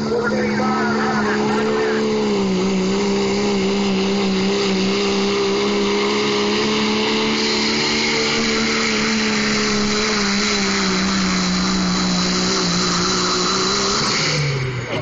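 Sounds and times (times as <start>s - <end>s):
diesel truck engine revving high: 0.0s - 15.0s.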